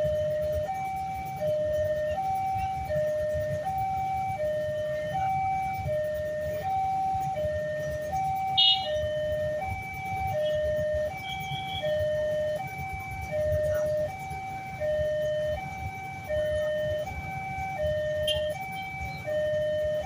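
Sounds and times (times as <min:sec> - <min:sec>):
two-tone warning siren: 0:00.0 - 0:20.0.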